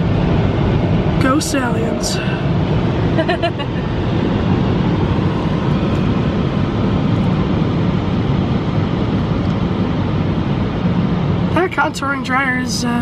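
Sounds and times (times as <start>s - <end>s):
car wash blower rushing air: 0.0s - 12.6s.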